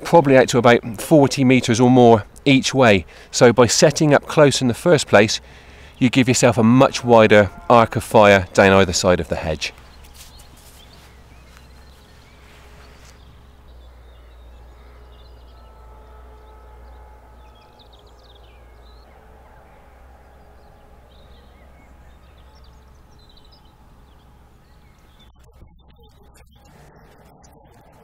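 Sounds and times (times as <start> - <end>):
low countryside hum: 0.0 - 28.0.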